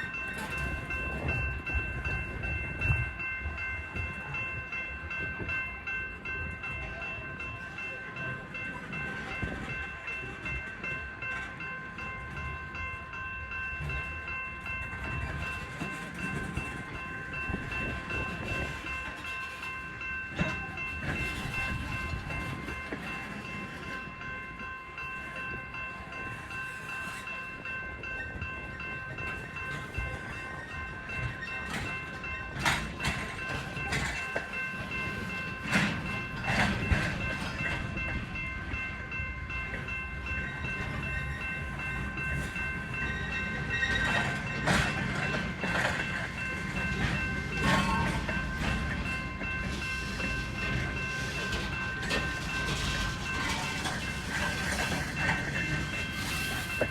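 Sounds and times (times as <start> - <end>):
freight train rumble and whine: 0.0 - 56.9.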